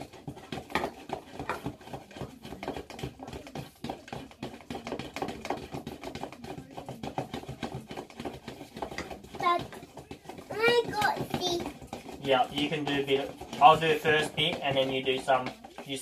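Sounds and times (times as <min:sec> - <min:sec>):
stirrer clicking and scraping cup: 0:00.0 - 0:16.0.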